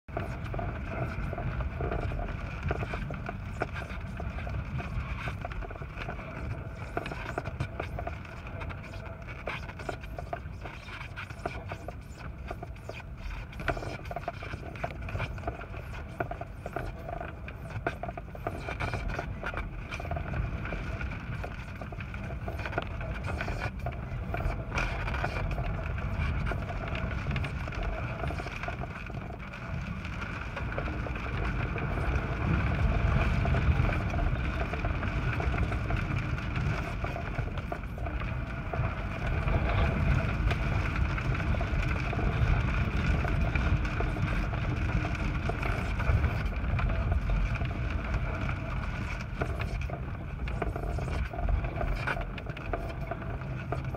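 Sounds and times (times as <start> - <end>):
faint steady whine: 0.0 - 53.9
gusting wind buffeting airplane: 0.1 - 53.9
raindrops tapping on windshield: 0.1 - 53.9.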